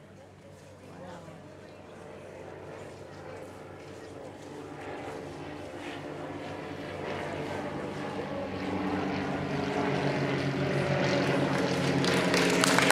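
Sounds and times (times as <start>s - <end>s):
propeller plane engines droning: 0.0s - 12.9s.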